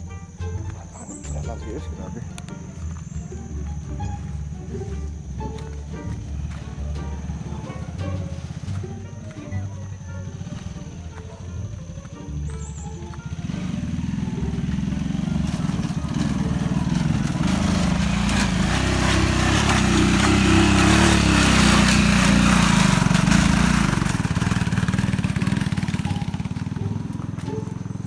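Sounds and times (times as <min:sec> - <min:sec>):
small motorcycle engine labouring: 0:00.0 - 0:28.0.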